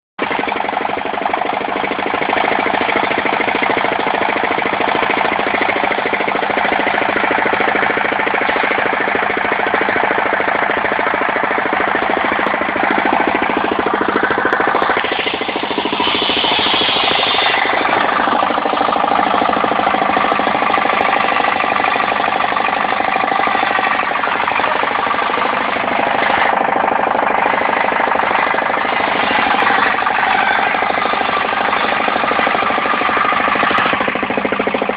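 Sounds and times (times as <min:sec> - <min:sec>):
sawmill engine knocking: 0:00.2 - 0:34.9.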